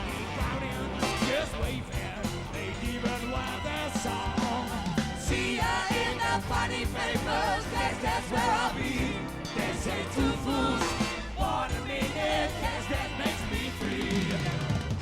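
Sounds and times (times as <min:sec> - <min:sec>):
live soul band playing: 0:00.0 - 0:15.0
voices singing: 0:00.0 - 0:15.0.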